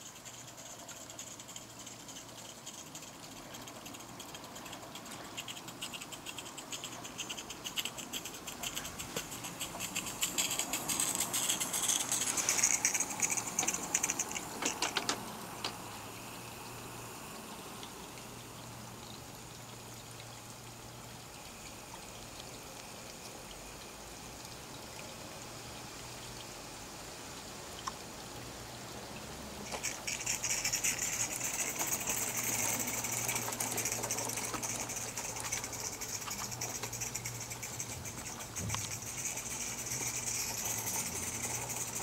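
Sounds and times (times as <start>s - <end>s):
steam hiss with rapid patter: 0.0s - 24.5s, 29.5s - 42.0s.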